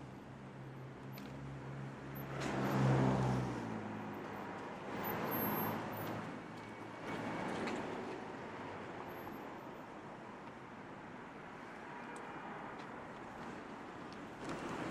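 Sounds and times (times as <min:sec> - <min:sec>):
cars passing by: 0:00.0 - 0:14.9.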